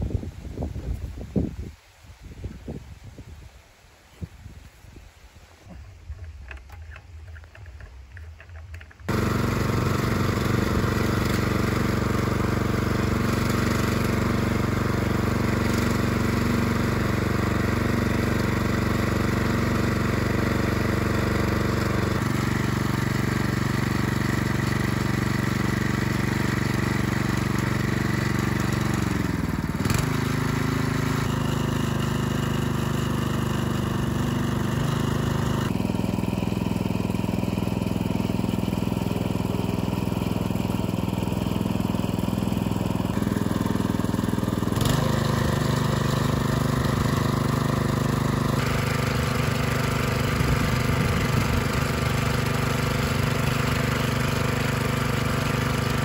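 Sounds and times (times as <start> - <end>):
small engine running: 6.1 - 56.0.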